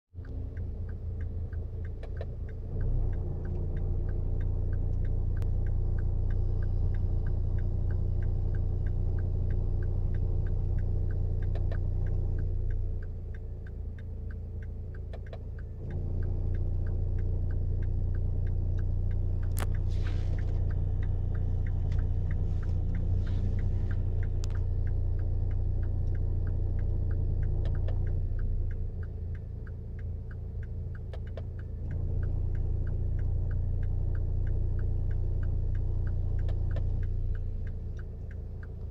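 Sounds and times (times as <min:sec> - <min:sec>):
car engine hum: 0:00.1 - 0:38.9
light regular ticking: 0:00.1 - 0:38.9.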